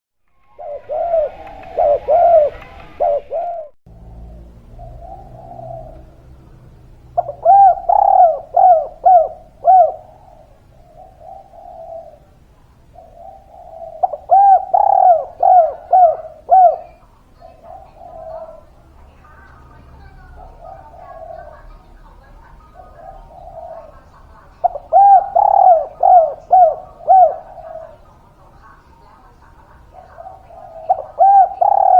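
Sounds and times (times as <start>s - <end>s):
dove cooing: 0.5s - 31.9s.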